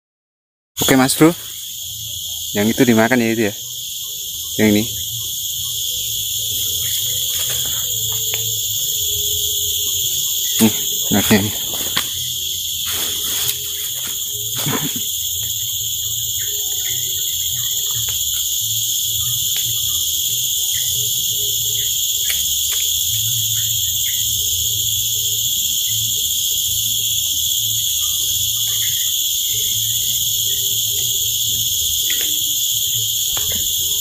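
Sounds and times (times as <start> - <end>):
shrill insect chorus: 0.8 - 34.0.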